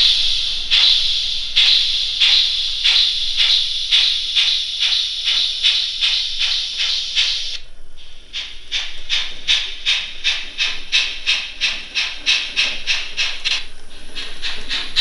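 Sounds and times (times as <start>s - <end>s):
steam chuffing from small speaker: 0.0s - 15.0s.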